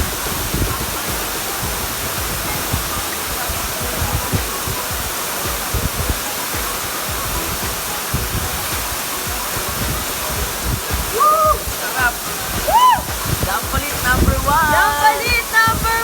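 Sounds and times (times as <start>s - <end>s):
low thumps: 0.0s - 16.0s
waterfall roaring: 0.0s - 16.0s.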